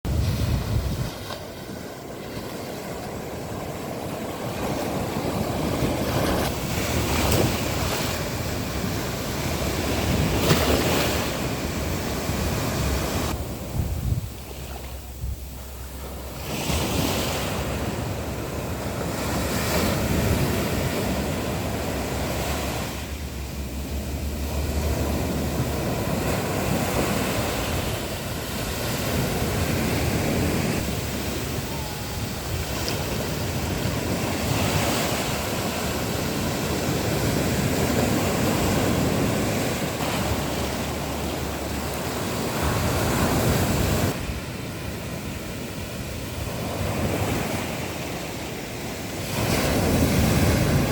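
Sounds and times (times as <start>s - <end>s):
wind buffeting microphone: 0.0s - 50.9s
sea waves breaking: 0.1s - 50.9s.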